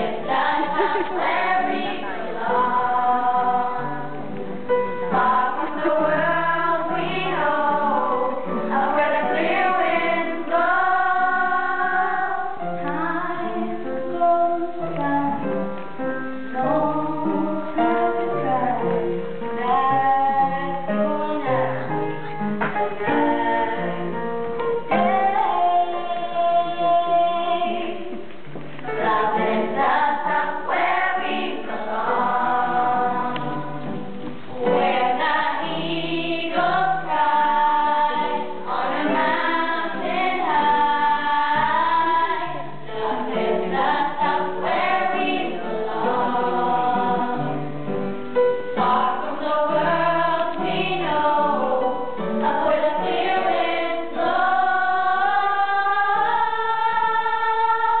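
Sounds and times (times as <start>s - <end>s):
musical accompaniment: 0.0s - 58.0s.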